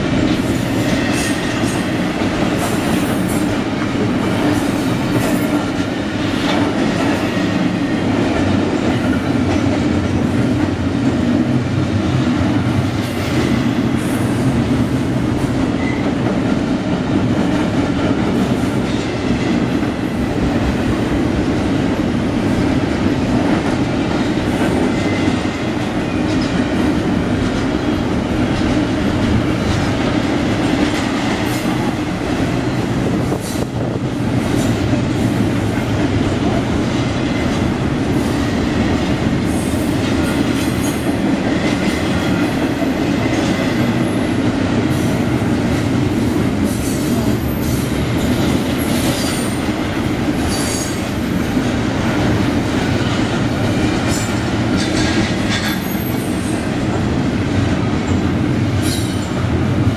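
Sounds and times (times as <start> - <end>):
freight cars rumbling on rail: 0.0 - 59.9.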